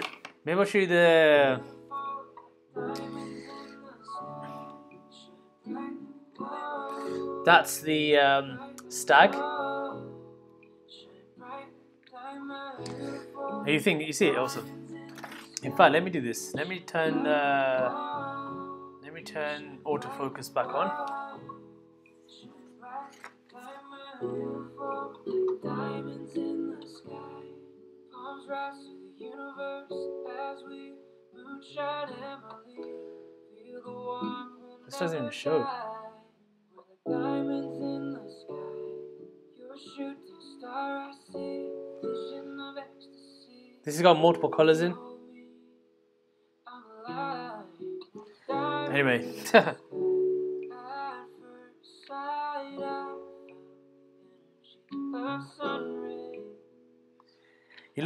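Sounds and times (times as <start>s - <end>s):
person singing: 0.0s - 45.8s, 46.7s - 56.7s.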